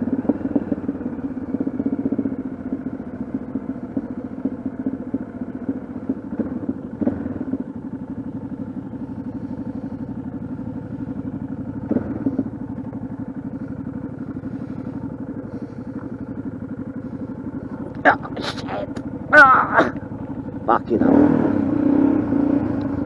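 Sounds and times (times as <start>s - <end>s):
motorcycle engine running at low revs: 0.0s - 23.0s.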